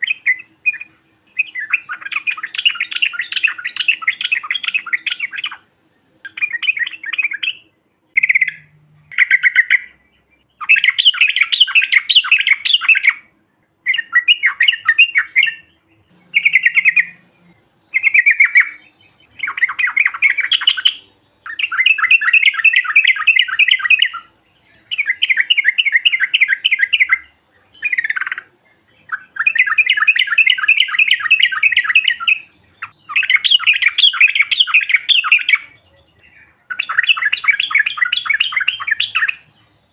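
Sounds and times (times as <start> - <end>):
bulbul singing bubbling song: 0.0 - 39.9.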